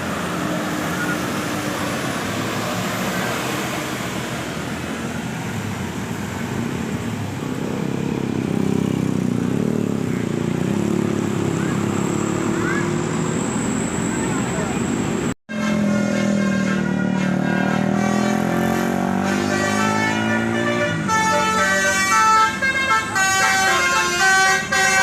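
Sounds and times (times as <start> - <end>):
bus engine running: 0.0 - 25.0
traffic noise: 0.0 - 25.0.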